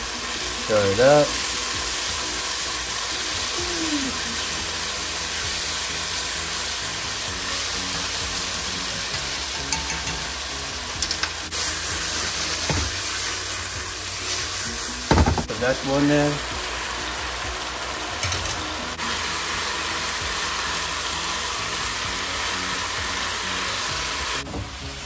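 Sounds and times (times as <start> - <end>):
beef and onions sizzling in a wok: 0.0 - 25.0.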